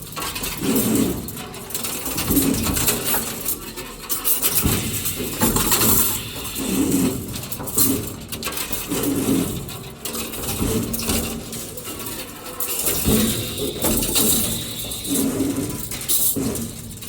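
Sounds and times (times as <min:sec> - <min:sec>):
metallic clinks and clanks: 0:00.1 - 0:17.0.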